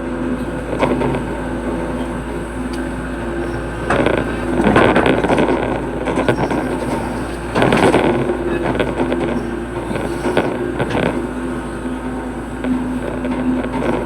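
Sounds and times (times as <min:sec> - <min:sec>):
excavator diesel engine: 0:00.0 - 0:14.0
excavator digging knocks: 0:00.4 - 0:14.0.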